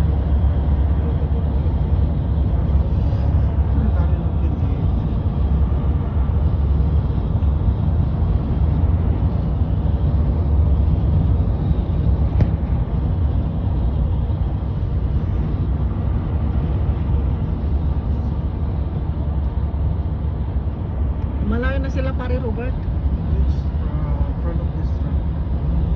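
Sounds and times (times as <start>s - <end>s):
car road and engine noise: 0.0s - 25.9s.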